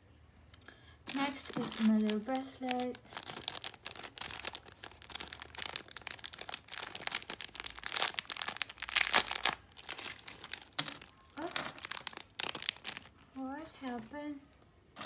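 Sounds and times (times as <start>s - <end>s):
plastic packet crinkling: 1.0s - 14.3s.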